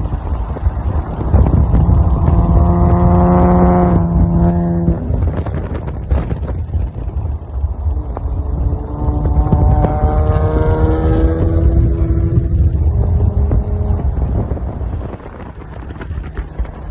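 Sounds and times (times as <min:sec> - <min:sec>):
car engine rumbling: 0:00.0 - 0:16.9
steady droning tone: 0:00.0 - 0:16.9
wind noise on microphone: 0:00.0 - 0:16.9.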